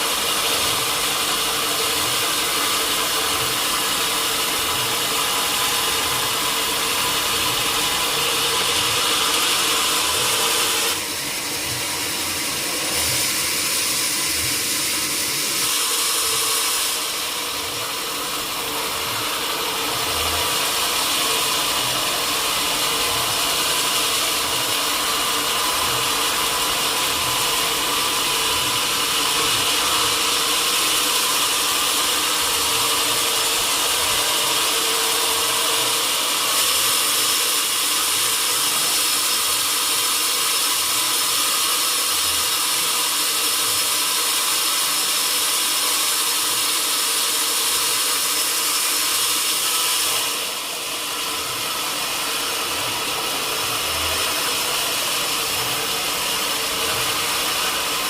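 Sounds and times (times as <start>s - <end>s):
saw cutting wood: 0.0s - 58.0s.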